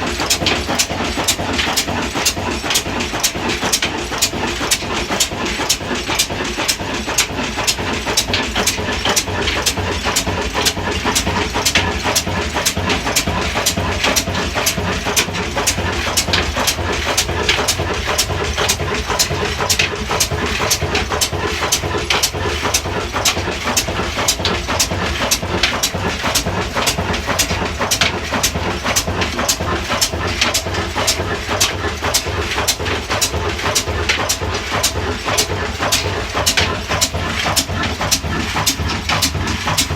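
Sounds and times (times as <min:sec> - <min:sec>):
diesel engine knocking: 0:00.0 - 0:39.9
low engine rumble: 0:00.0 - 0:39.9.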